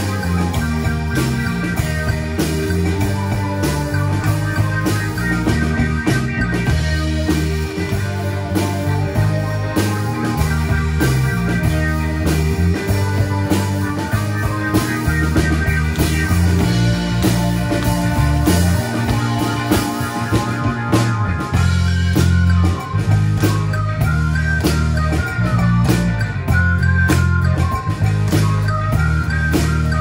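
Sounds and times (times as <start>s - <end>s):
synthesizer chords: 0.0s - 26.8s
drum kit beat: 0.0s - 30.0s
electric bass line: 0.0s - 30.0s
wavering high melody: 0.0s - 30.0s.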